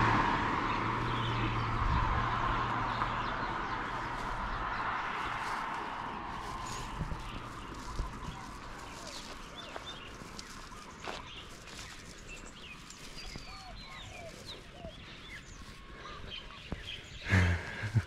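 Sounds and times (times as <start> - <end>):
wild birds chirping: 0.0 - 18.0.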